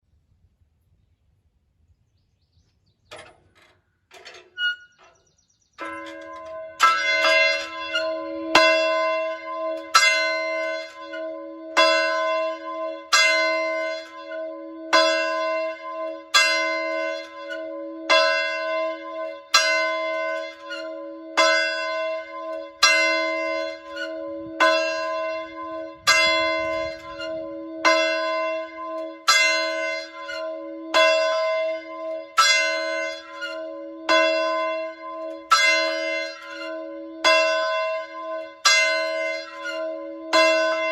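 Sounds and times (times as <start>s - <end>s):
fire alarm bell tolling: 5.8s - 40.9s.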